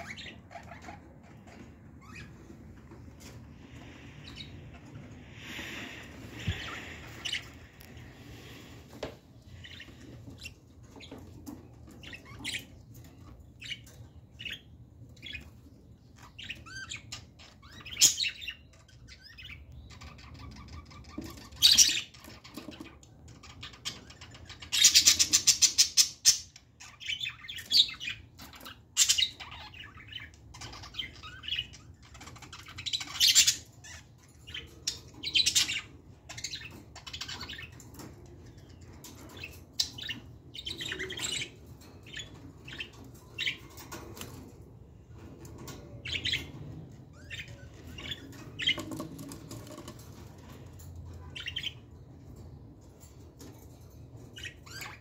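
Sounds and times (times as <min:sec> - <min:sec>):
budgerigars chirping: 0:00.0 - 0:02.9, 0:03.7 - 0:08.7, 0:09.6 - 0:43.8, 0:46.0 - 0:49.8, 0:51.2 - 0:51.8, 0:54.4 - 0:55.0.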